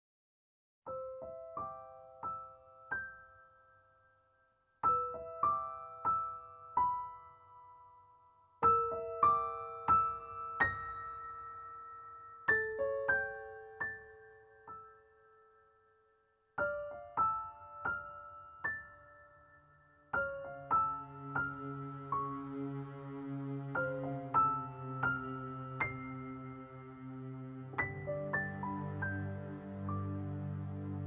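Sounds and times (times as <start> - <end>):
slow solo piano music: 0.9 - 4.2, 4.8 - 31.0.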